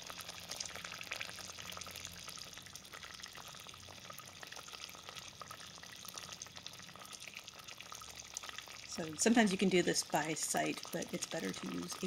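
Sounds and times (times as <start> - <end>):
jam bubbling and popping: 0.0 - 12.0.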